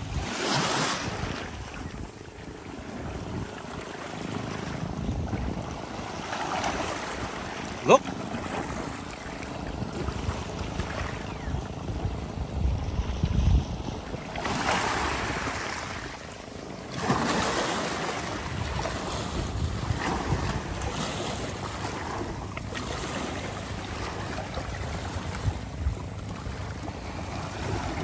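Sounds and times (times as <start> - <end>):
wind buffeting microphone: 0.0 - 7.5, 9.5 - 16.3, 18.3 - 22.8, 23.7 - 28.0
small waves washing ashore: 0.0 - 28.0.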